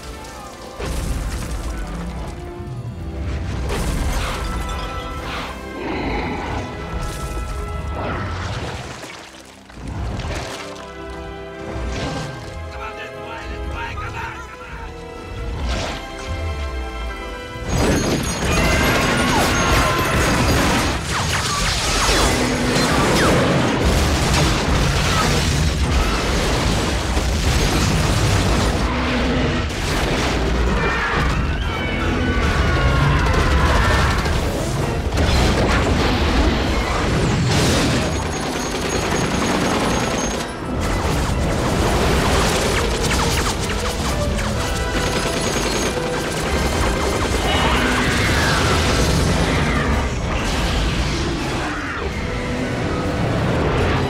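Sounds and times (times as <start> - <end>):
film score music: 0.0 - 54.0.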